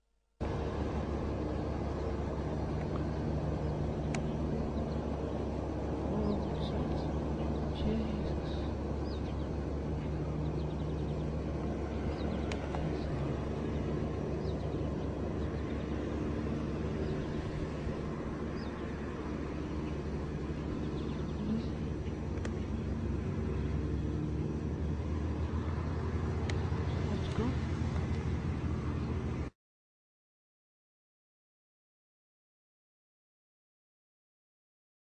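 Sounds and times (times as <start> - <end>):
airplane engines droning overhead: 0.4 - 29.6.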